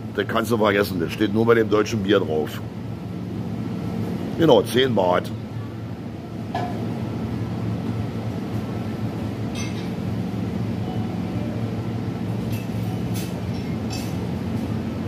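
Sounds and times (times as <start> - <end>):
low hum of machinery: 0.0 - 15.0.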